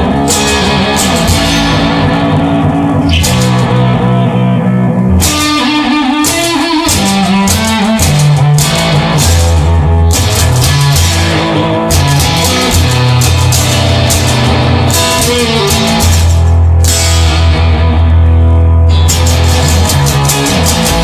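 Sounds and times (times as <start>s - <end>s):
bass line: 0.0s - 21.0s
drums: 0.0s - 21.0s
rock guitar: 0.0s - 21.0s.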